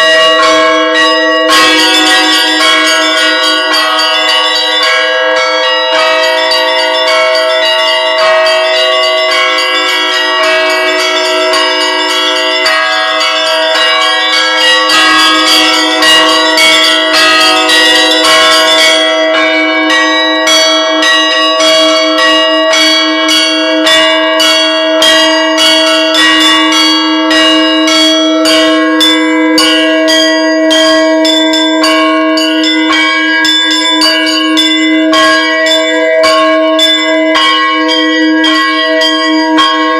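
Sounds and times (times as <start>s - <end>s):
bells ringing: 0.0s - 39.9s.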